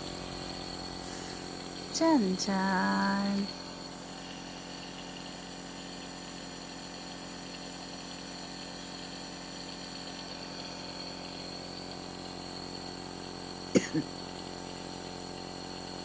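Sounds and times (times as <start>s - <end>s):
nebulizer motor hum and hiss: 0.0s - 16.0s.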